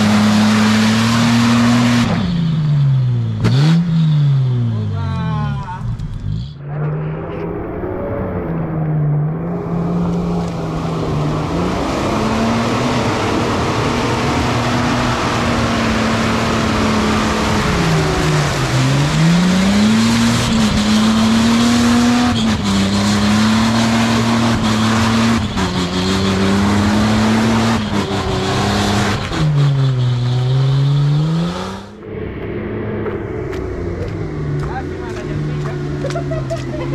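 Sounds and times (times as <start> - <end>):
engine revving under load: 0.0 - 5.0, 5.8 - 36.9.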